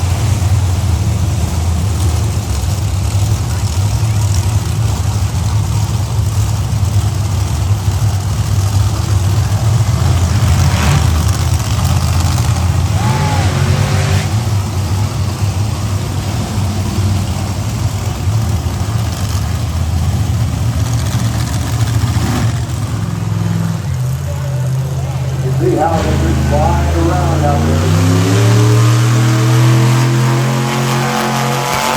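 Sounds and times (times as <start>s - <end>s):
truck engines idling: 0.0s - 31.9s.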